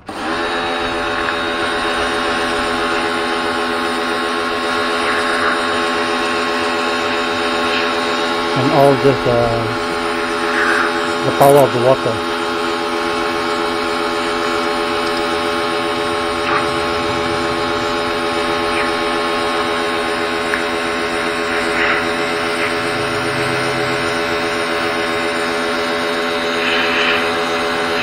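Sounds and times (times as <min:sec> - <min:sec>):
high-pressure water jet hissing: 0:00.0 - 0:28.0
pressure washer motor hum: 0:00.0 - 0:28.0.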